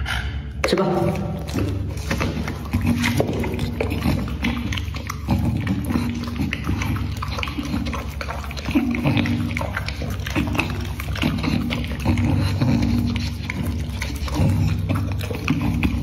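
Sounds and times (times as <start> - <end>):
dog licking food off metal plate: 0.5 - 16.0.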